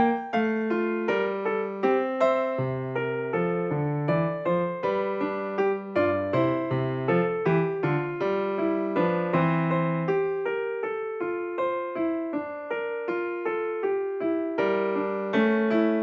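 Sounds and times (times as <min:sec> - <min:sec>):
gentle electric piano melody: 0:00.0 - 0:16.0.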